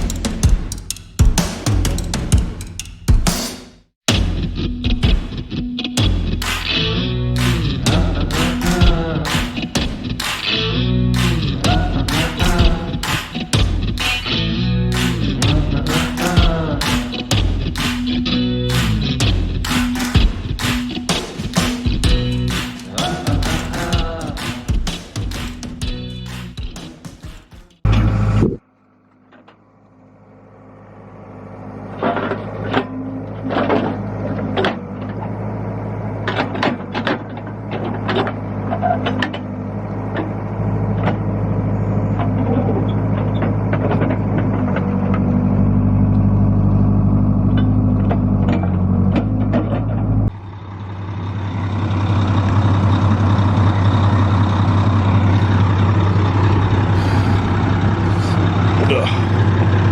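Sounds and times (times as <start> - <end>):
diesel engine running: 5.9 - 26.6, 27.7 - 59.9.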